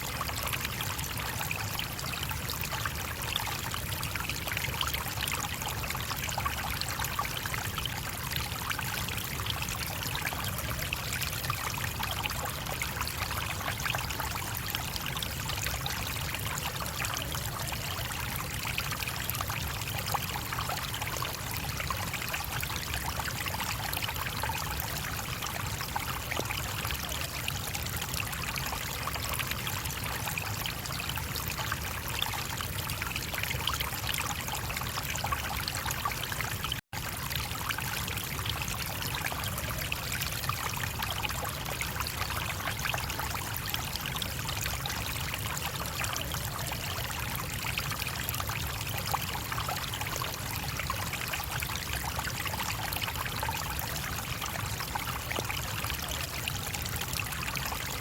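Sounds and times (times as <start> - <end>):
brook water flowing: 0.0 - 58.0.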